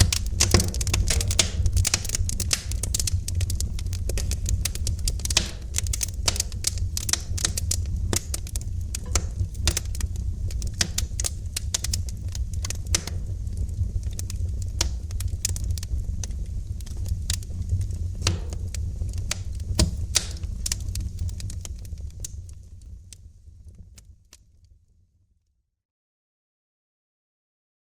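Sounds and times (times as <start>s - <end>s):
wood fire crackling and popping: 0.0s - 24.4s
low fire rumble: 0.0s - 24.8s.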